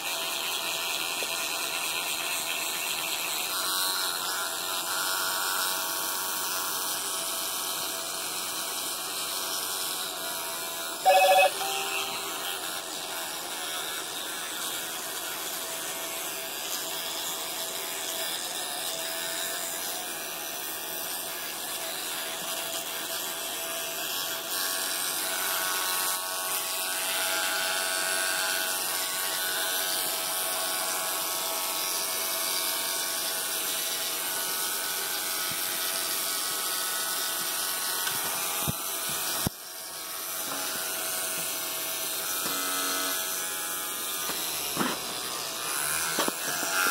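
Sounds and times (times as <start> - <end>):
electric toothbrush buzzing: 0.0 - 46.9.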